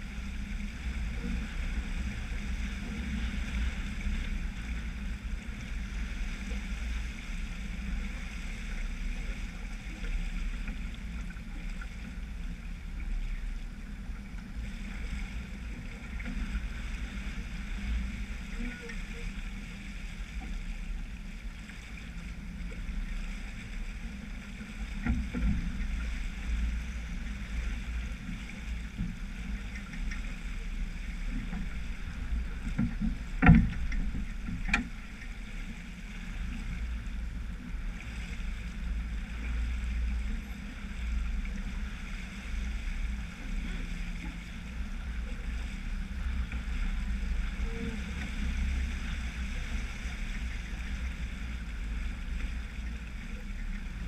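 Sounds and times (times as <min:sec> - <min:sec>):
water rushing along a hull: 0:00.0 - 0:54.0
wind rumbling on microphone: 0:00.0 - 0:54.0.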